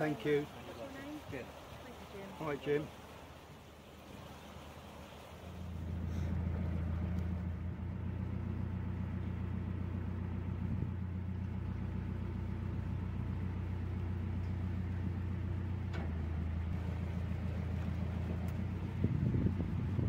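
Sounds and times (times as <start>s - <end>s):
diesel boat engine humming: 0.0s - 20.0s.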